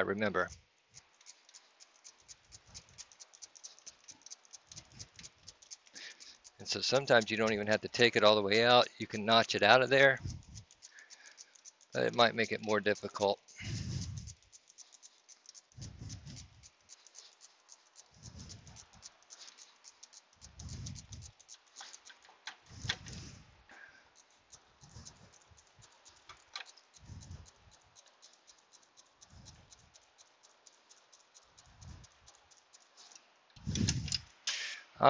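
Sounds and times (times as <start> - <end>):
socket ratchet clicking: 0.5 - 23.3, 24.2 - 34.6.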